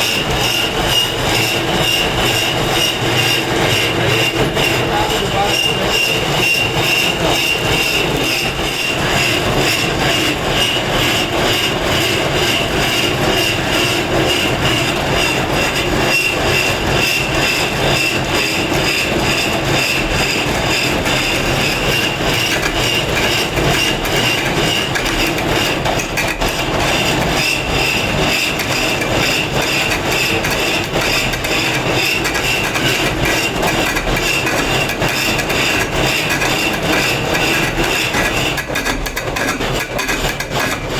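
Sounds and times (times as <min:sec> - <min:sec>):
power tool grinding stone: 0:00.0 - 0:40.9.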